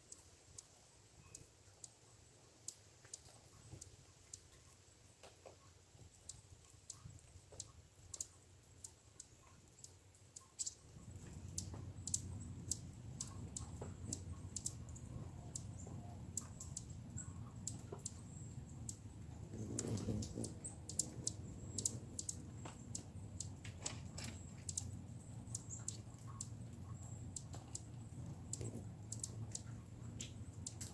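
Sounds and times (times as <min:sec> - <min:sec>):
sharp clicks and ticks: 0:05.2 - 0:30.9.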